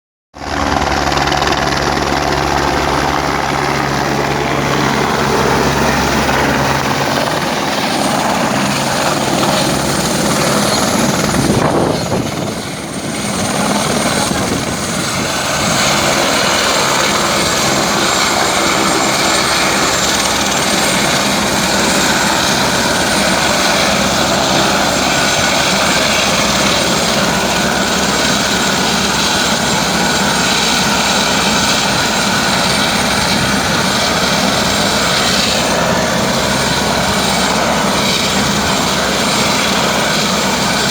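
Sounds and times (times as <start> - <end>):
helicopter rotor and turbine: 0.4 - 40.9.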